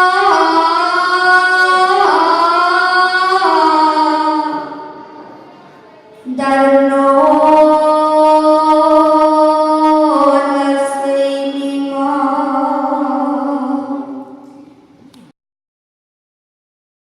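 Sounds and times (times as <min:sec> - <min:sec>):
person singing long held note: 0:00.0 - 0:05.4, 0:06.3 - 0:14.6.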